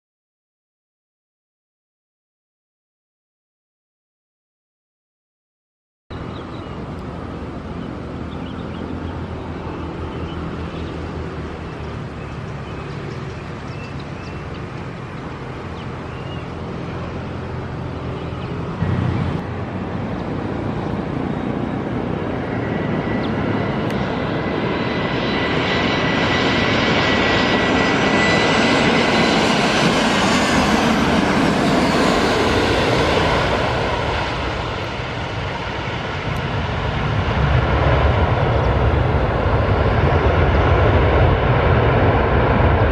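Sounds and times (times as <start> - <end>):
jet engines whining: 6.1 - 42.9.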